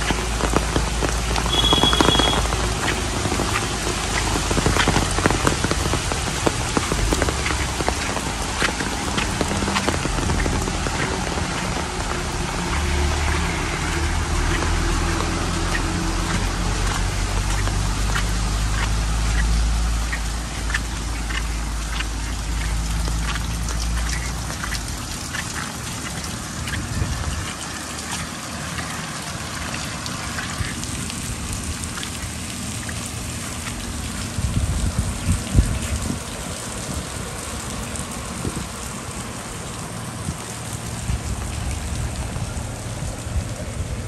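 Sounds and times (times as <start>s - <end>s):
heavy rain falling: 0.0s - 44.0s.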